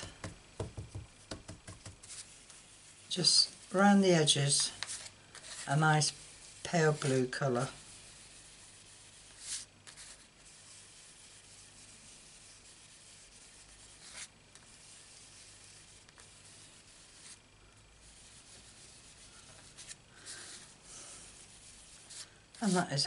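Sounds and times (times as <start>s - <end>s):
brush rubbing on card: 1.3s - 23.0s.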